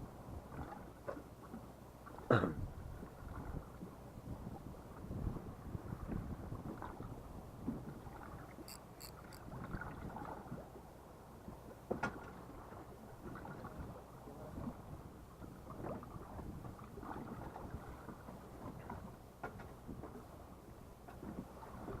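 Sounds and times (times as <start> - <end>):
water lapping against boat hull: 0.4 - 4.0, 4.6 - 10.9, 11.5 - 22.0.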